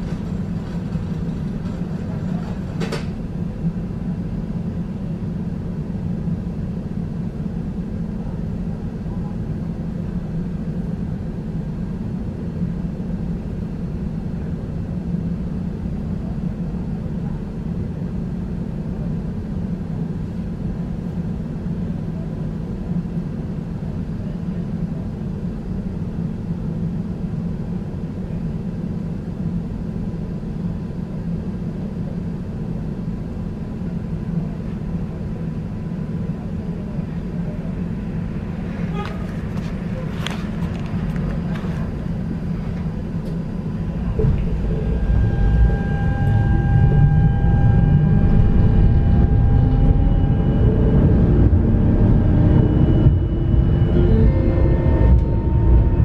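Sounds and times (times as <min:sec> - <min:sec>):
tram humming: 0:00.0 - 0:56.0.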